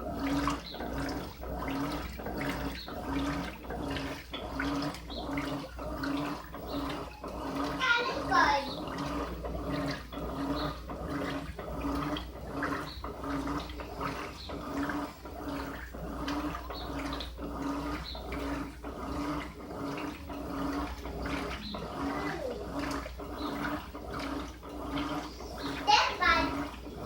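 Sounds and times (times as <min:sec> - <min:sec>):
washing machine motor humming: 0:00.0 - 0:27.0
water and clothes sloshing: 0:00.0 - 0:27.0.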